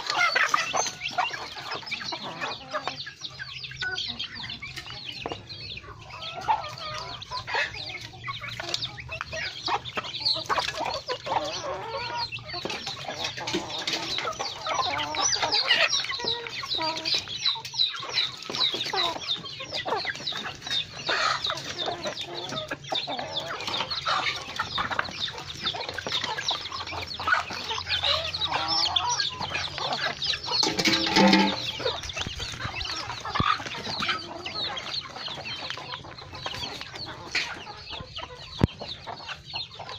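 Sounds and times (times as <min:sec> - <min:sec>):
chickens clucking and peeping: 0:00.0 - 0:39.9.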